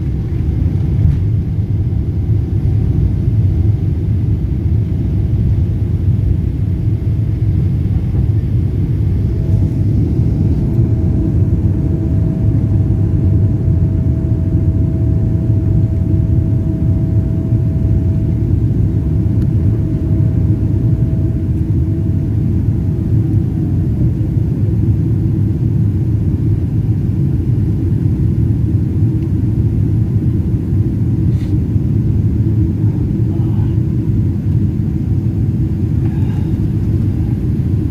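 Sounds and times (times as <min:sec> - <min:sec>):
jet engine cabin rumble: 0:00.0 - 0:37.9.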